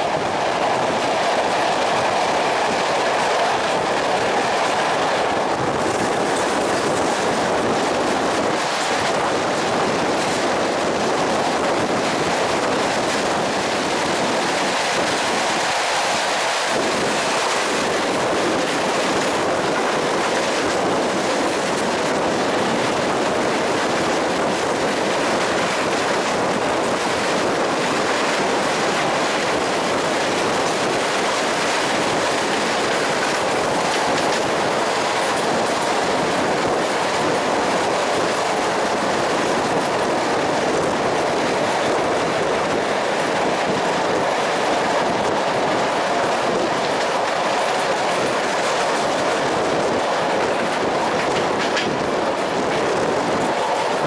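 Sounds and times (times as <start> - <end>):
train wheels on rail: 0.0 - 54.0.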